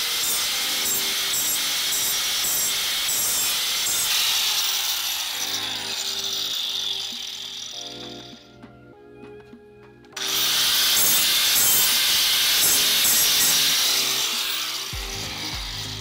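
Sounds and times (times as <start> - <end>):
angle grinder cutting metal: 0.0 - 8.5, 10.2 - 16.0.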